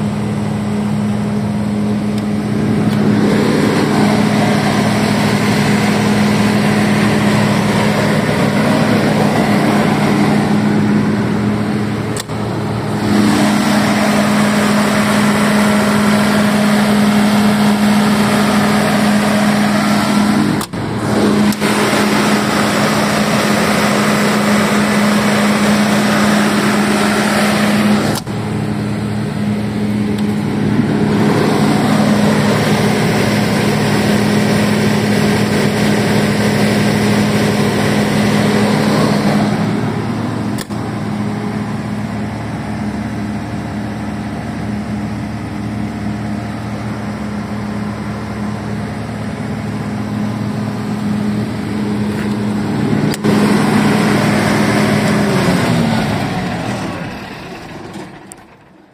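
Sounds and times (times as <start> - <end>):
diesel generator humming: 0.0 - 58.9.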